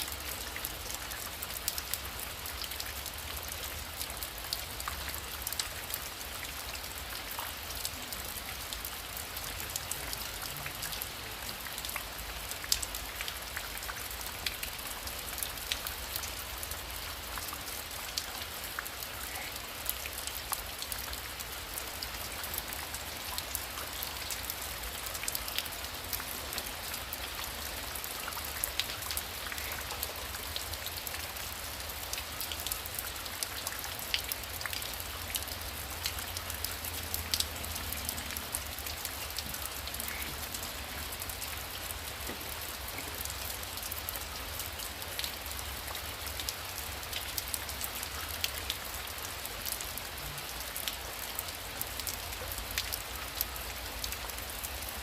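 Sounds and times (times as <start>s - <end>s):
heavy rain patter: 0.0s - 55.0s.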